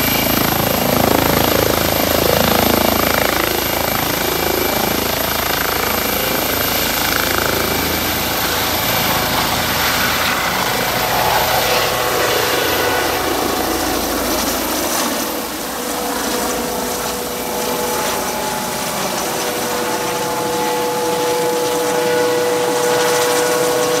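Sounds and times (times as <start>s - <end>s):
helicopter rotor and turbine: 0.0s - 24.0s.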